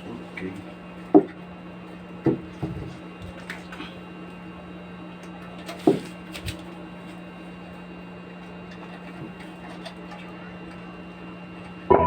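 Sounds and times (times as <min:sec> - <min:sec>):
speaker system electrical hum: 0:00.0 - 0:12.0.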